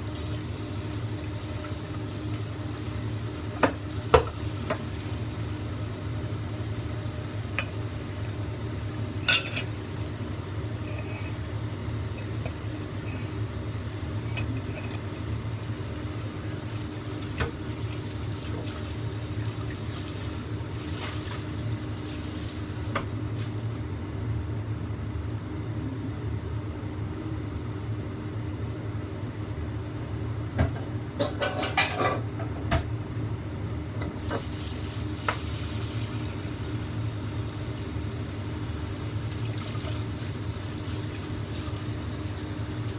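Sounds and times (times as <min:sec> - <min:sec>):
wok steaming hiss and hum: 0:00.0 - 0:42.9.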